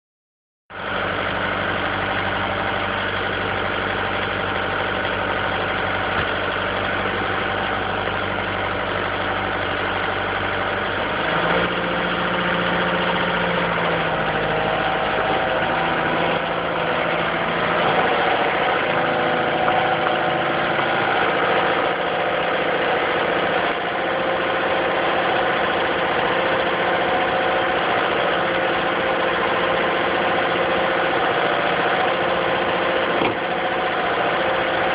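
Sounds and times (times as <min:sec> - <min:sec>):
excavator diesel engine running: 0:00.7 - 0:34.9.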